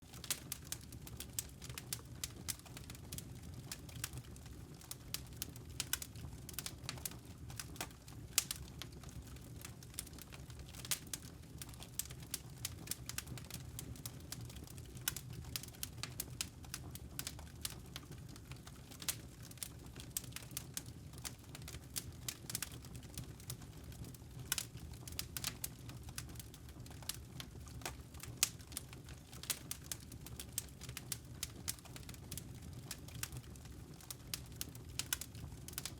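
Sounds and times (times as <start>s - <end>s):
burning logs popping and snapping: 0.0s - 35.9s
low rumble of flame: 0.0s - 35.9s.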